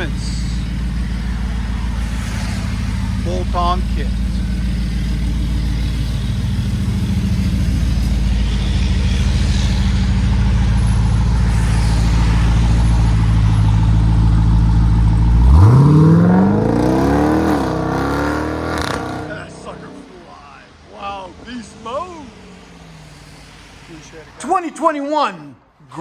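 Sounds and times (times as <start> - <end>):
car engine idling and revving: 0.0 - 25.8.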